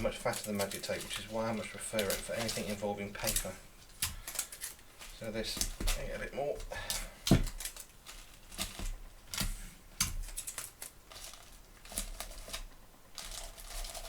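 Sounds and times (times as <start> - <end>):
paper rustling and crackling: 0.0 - 14.0.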